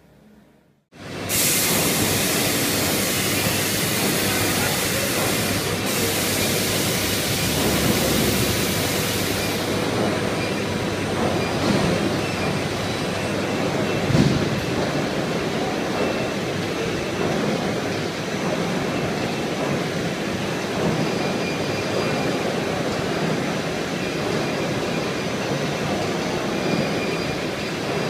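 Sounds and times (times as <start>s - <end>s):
loud machine noise: 1.0s - 28.0s.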